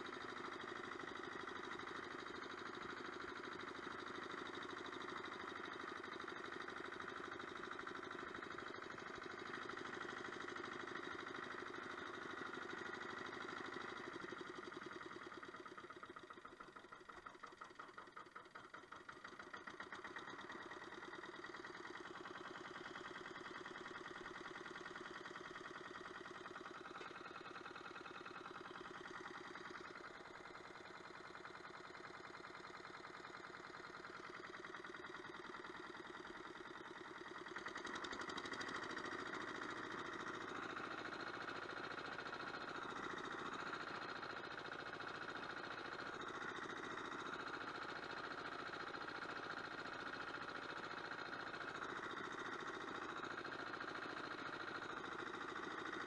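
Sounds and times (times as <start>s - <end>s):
walk-behind tractor engine running: 0.0s - 56.0s.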